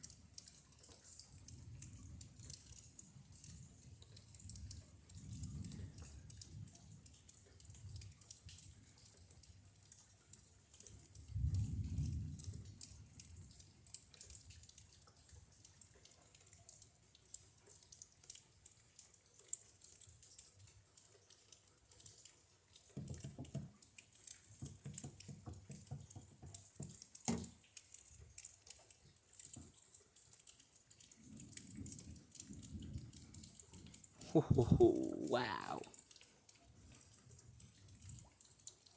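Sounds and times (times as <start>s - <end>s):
rain dripping and pattering: 0.0s - 38.9s.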